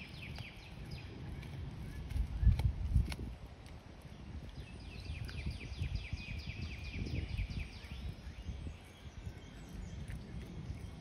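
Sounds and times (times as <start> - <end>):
low crackling noise: 0.0 - 5.7, 7.8 - 11.0.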